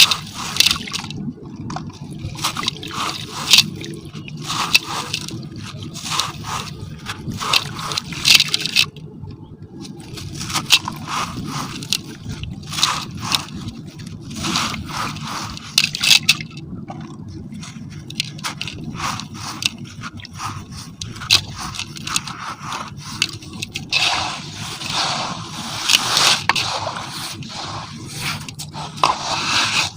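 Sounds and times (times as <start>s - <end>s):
gritty cement crunching and scraping: 0.0s - 1.2s, 2.2s - 8.9s, 9.8s - 16.6s, 17.4s - 29.9s.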